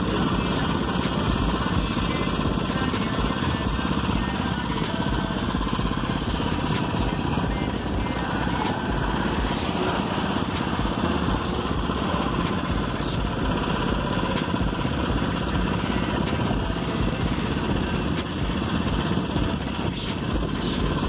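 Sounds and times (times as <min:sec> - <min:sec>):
motorized bicycle engine buzzing: 0:00.0 - 0:21.0.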